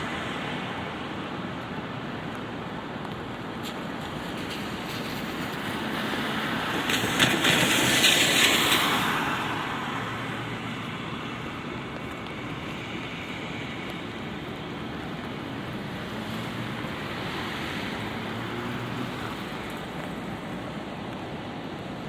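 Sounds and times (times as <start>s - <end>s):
tyres hissing on wet road: 0.0s - 22.0s
steady light rain: 1.9s - 22.0s.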